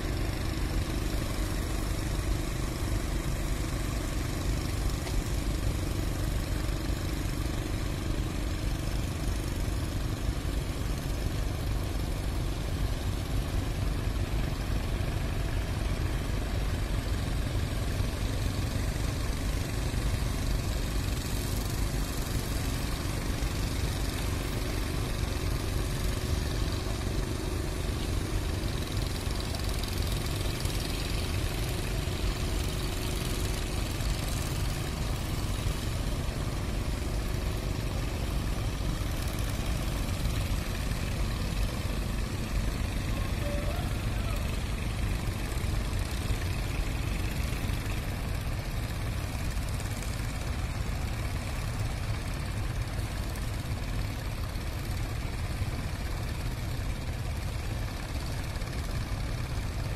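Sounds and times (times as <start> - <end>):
faint boat engine drone: 0.0 - 59.9.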